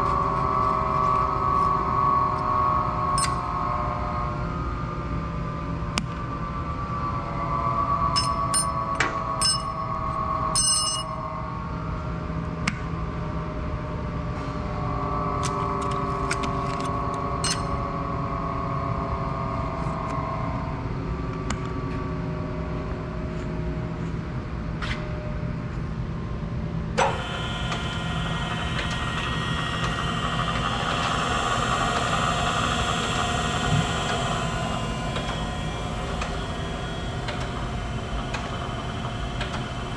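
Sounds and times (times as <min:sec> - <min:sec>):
grinder machine hum and whine: 0:00.0 - 0:39.9.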